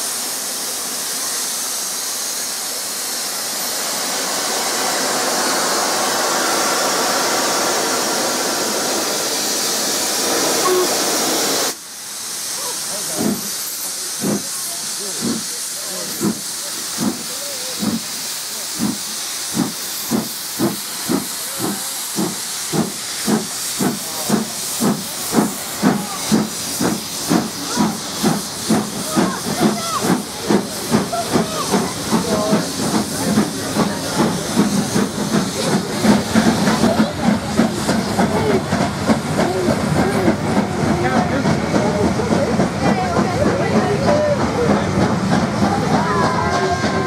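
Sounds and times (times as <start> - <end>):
steam hissing: 0.0 - 47.0
steam locomotive exhaust beats: 0.0 - 47.0.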